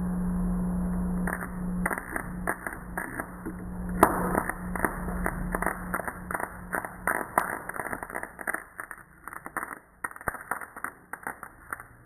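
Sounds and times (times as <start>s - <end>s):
electric motor sparks crackling: 0.0s - 12.0s.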